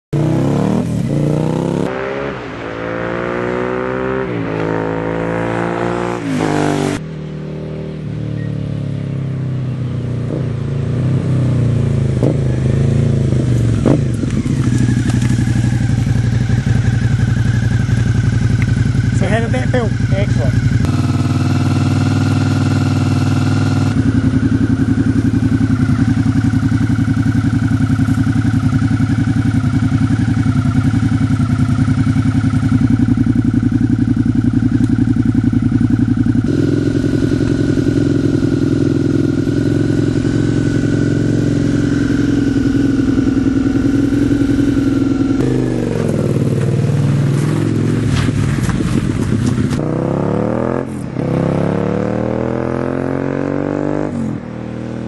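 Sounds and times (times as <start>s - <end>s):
motorcycle engine revving: 0.2s - 55.0s
deep exhaust note: 0.4s - 7.1s, 10.1s - 29.3s, 32.6s - 52.5s.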